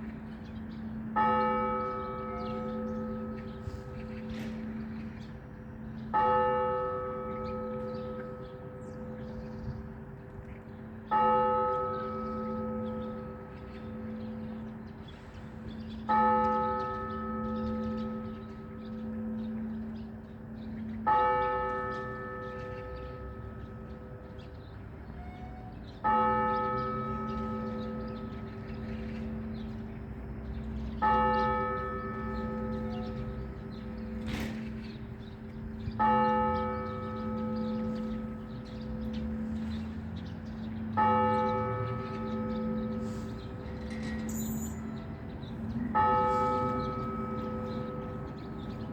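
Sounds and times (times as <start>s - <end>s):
large church bell tolling: 0.0s - 48.9s.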